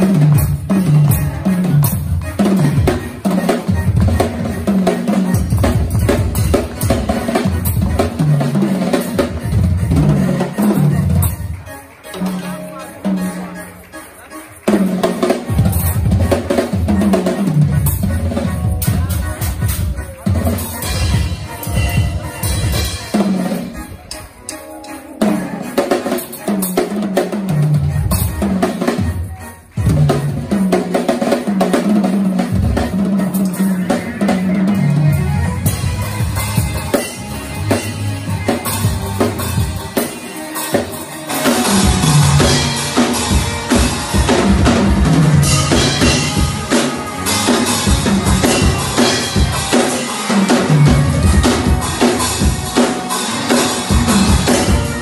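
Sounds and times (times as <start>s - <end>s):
acoustic drum kit playing: 0.0s - 55.0s.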